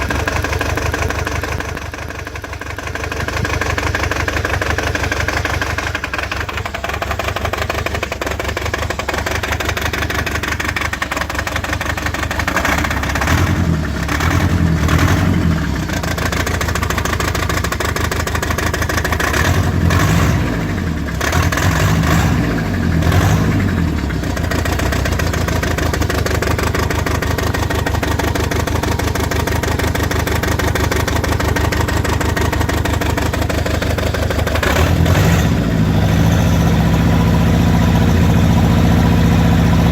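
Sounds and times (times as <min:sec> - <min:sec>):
misfiring car engine revving: 0:03.2 - 0:39.9.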